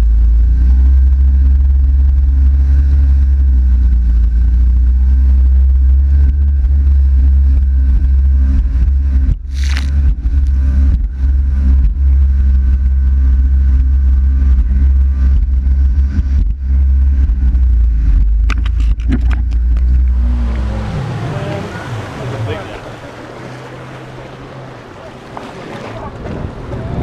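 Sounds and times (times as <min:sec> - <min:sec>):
jet ski engine rumble: 0:00.0 - 0:27.0.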